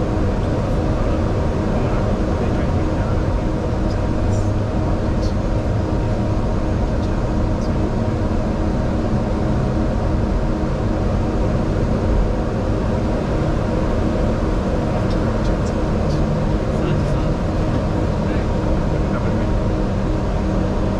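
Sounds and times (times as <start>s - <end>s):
airliner cockpit engine drone: 0.0s - 20.9s.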